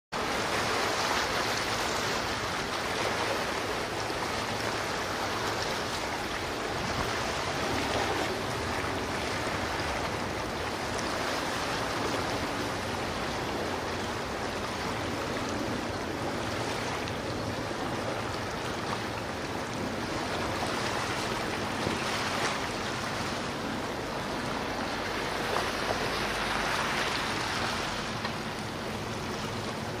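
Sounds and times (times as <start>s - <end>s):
sea waves rushing: 0.1s - 30.0s.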